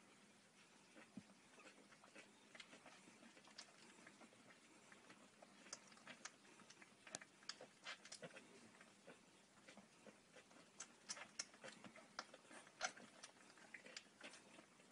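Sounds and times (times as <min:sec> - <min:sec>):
puppies suckling wet clicks: 0:00.5 - 0:14.9.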